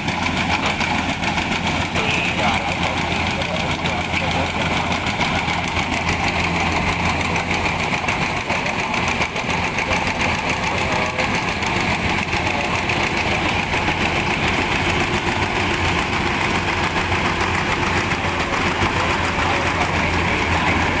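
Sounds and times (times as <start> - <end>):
harvester engine chugging: 0.0 - 21.0.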